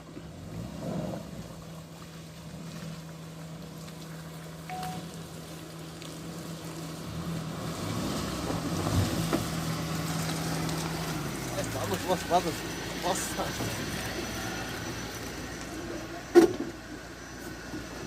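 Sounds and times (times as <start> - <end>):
low engine hum: 0.0 - 18.0
vehicle approaching: 0.0 - 18.0.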